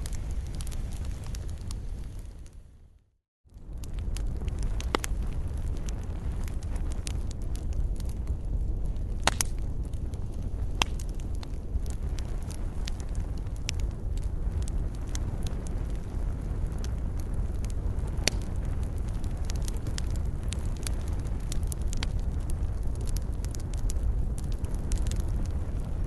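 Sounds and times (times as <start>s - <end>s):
campfire crackling and popping: 0.0s - 2.7s, 3.5s - 26.0s.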